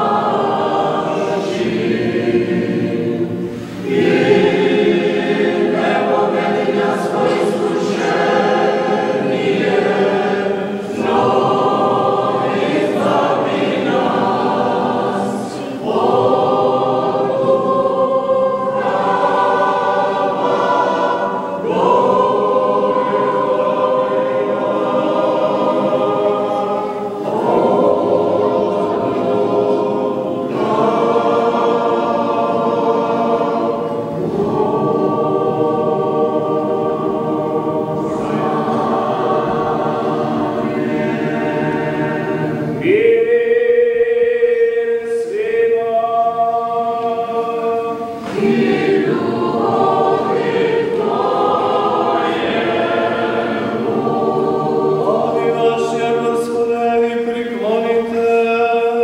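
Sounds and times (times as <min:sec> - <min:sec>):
congregation chanting: 0:00.0 - 0:59.0.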